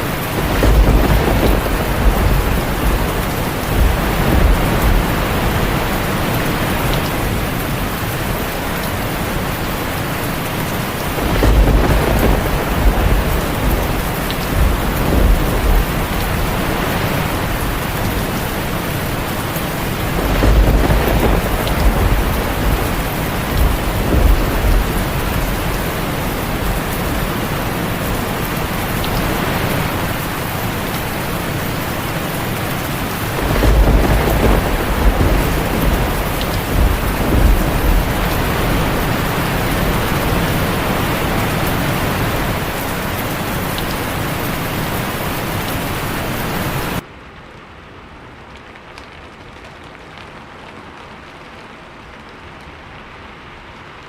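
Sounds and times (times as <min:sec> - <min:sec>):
distant thunder rumbling: 0:00.0 - 0:31.6, 0:32.2 - 0:47.0
heavy rain: 0:00.0 - 0:54.0.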